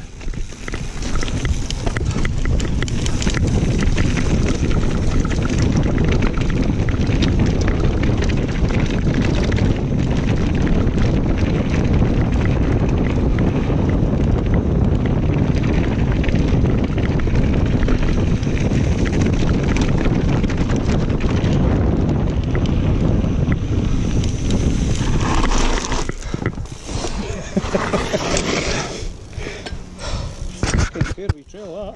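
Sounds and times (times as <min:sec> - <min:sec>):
bike clattering over bumps: 0:00.0 - 0:31.7
tyres rolling on dirt and stones: 0:00.0 - 0:31.9
wind buffeting microphone: 0:00.0 - 0:31.9.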